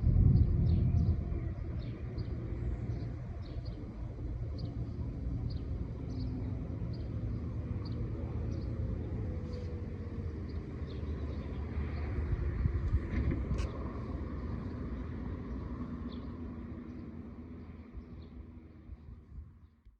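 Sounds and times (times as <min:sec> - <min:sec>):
vehicle passing with low rumble: 0:00.0 - 0:19.8.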